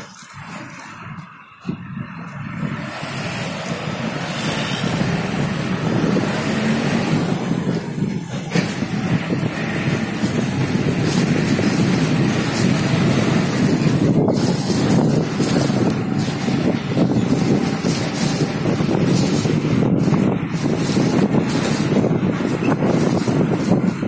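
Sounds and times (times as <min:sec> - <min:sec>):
road noise from moving vehicle: 0:00.0 - 0:24.0
wind buffeting microphone: 0:00.0 - 0:24.0.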